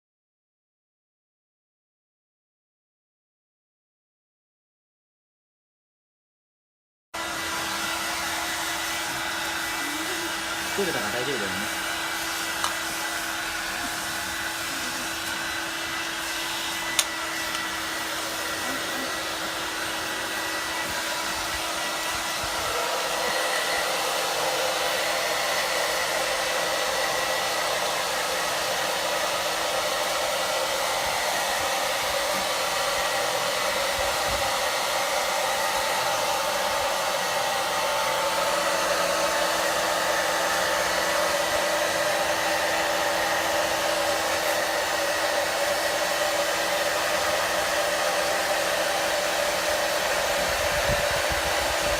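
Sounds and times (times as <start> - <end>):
hair dryer blowing: 7.2 - 51.9.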